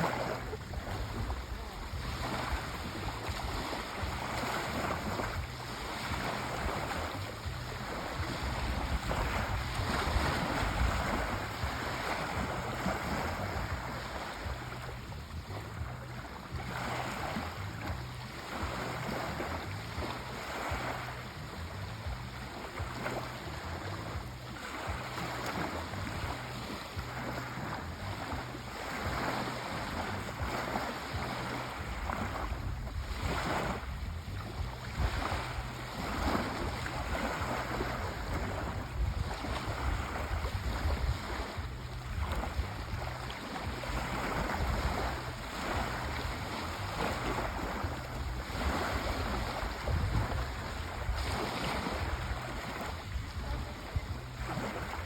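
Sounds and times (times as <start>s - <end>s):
sea waves washing in and out: 0.0s - 55.0s.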